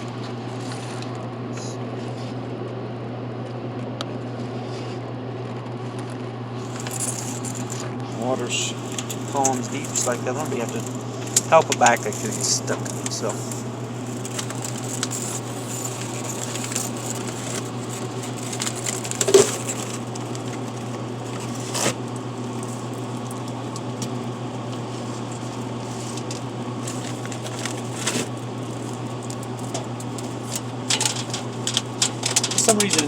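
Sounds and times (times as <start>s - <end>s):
vending machine low hum: 0.0s - 33.0s.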